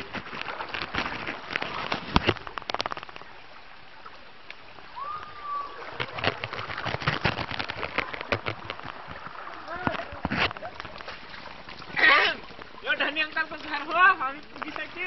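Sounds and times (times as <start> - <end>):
legs wading through floodwater: 0.0 - 15.0.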